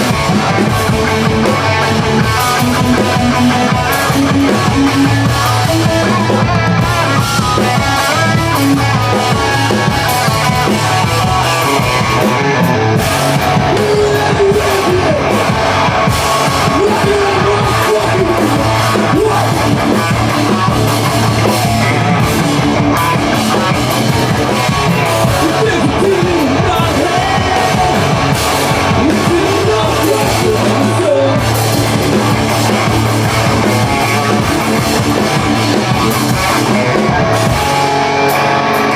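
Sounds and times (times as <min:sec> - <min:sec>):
drum kit: 0:00.0 - 0:38.9
guitar: 0:00.0 - 0:38.9.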